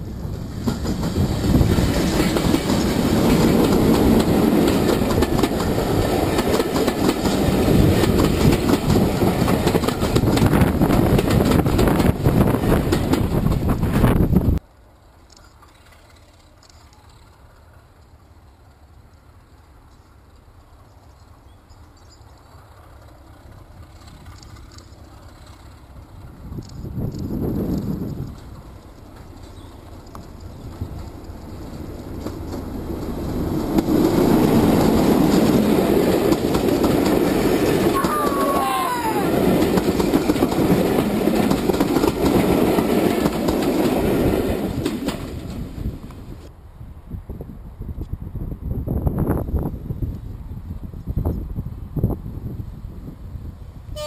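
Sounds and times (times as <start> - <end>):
diesel locomotive rumbling: 0.0 - 54.0
clickety-clack over rail joints: 0.4 - 46.5.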